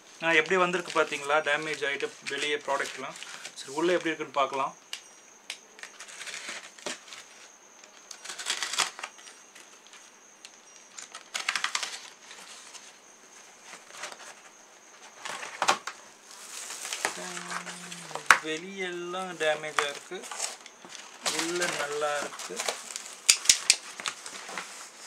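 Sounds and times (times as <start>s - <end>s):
cardboard packaging rustling: 0.2s - 4.2s, 5.7s - 25.0s.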